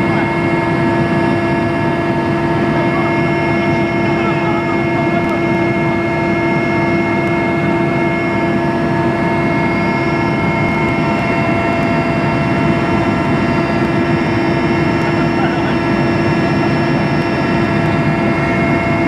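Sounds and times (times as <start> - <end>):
constant whining tones: 0.0 - 19.0
helicopter engine and rotor drone: 0.0 - 19.0.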